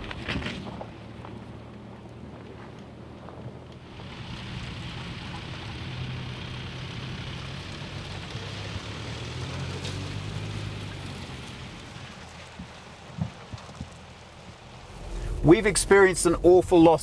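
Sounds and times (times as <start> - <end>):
cars driving on dirt track: 0.0 - 16.6
low engine hum: 0.0 - 17.0.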